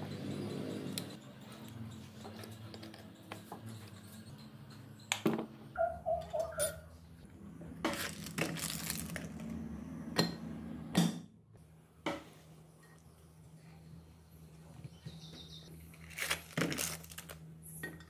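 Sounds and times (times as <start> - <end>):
steady low hum: 1.0 - 18.0.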